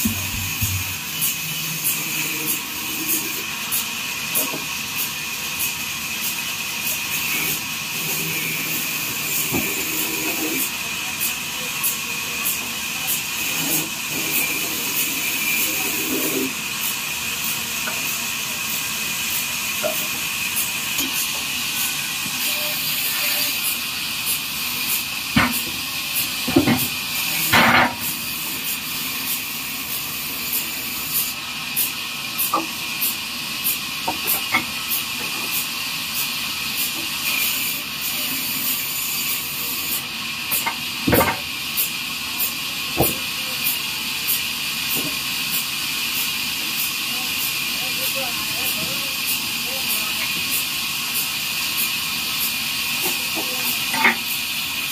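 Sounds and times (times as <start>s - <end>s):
sawmill machinery hiss: 0.0s - 54.9s.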